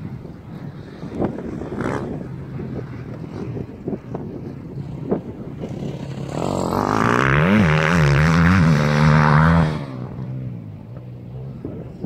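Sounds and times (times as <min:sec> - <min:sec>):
motorbike engine revving: 0:00.8 - 0:03.9, 0:04.8 - 0:11.7.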